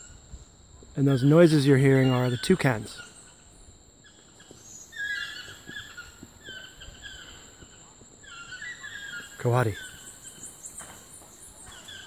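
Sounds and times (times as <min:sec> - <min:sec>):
high insect whine: 0:00.0 - 0:12.0
toucans calling: 0:01.0 - 0:12.0.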